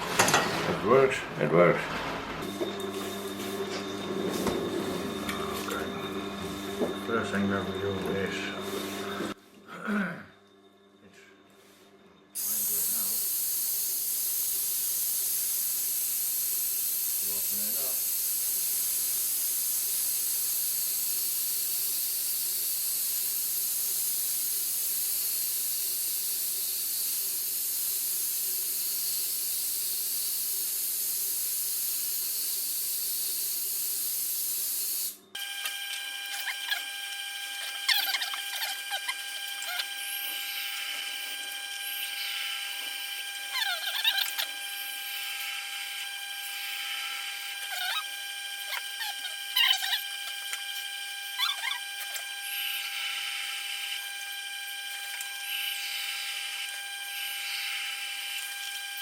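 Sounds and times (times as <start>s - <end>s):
sharpening machine running: 0.0s - 9.4s, 12.4s - 59.0s.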